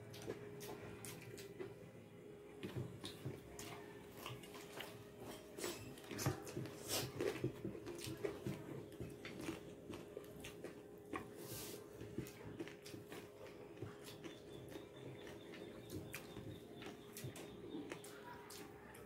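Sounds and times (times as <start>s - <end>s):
biting and chewing: 0.0s - 1.9s, 2.5s - 19.0s.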